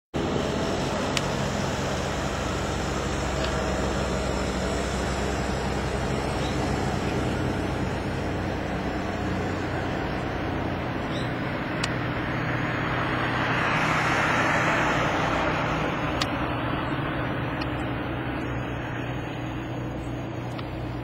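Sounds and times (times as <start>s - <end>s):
low engine hum: 0.1s - 21.0s
constant wash of noise: 0.2s - 21.0s.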